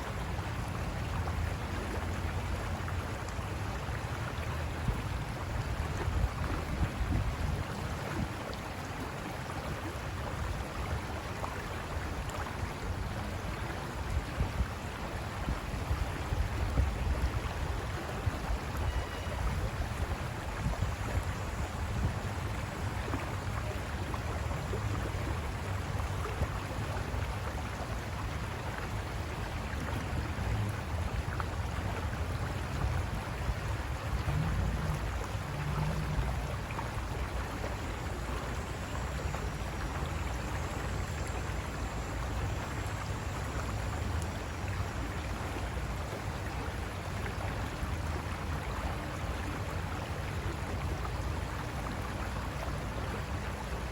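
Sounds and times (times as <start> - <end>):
river water rushing over rocks: 0.0 - 53.9.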